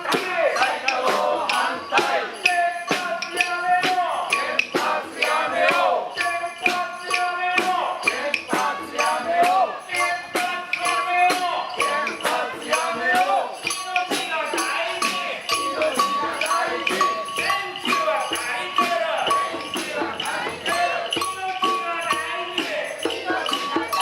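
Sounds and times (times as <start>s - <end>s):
music with percussive beat: 0.0s - 24.0s.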